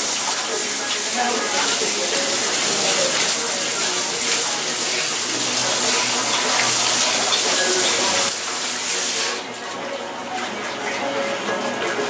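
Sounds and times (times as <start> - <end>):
water spraying onto hair: 0.0 - 9.8.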